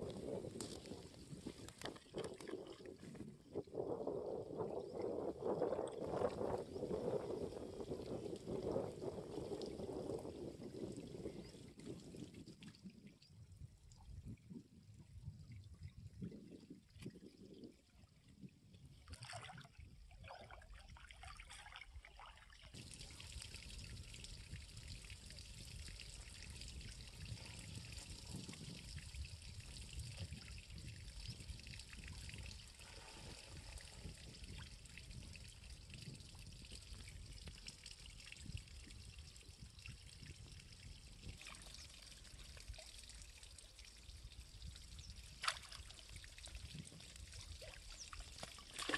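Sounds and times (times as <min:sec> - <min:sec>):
shallow water trickling and lapping: 0:00.0 - 0:48.9.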